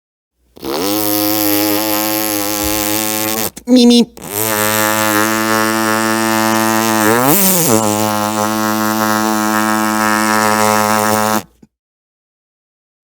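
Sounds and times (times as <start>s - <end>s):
man imitating mechanical drone: 0.6s - 11.6s.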